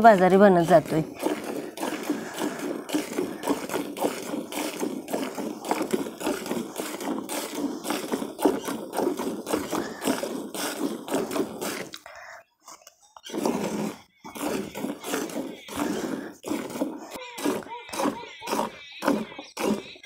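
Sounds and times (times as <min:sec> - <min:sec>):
milk squirting into a pail: 0:00.0 - 0:12.2, 0:12.8 - 0:20.0.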